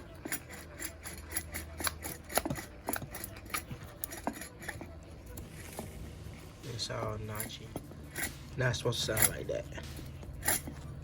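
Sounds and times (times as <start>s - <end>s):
wheel bearing clicking and scraping: 0.0s - 11.0s.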